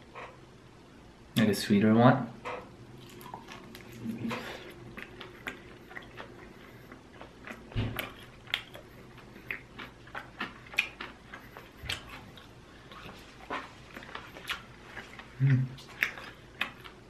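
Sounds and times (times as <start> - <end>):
chewing with wet mouth clicks: 3.0 - 17.0.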